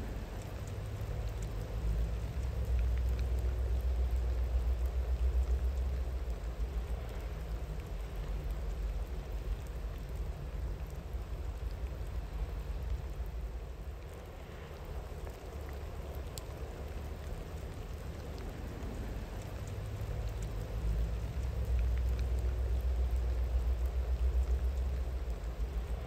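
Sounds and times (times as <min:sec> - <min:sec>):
single raindrop ticks: 0:00.0 - 0:26.0
steady rain falling: 0:00.0 - 0:26.0.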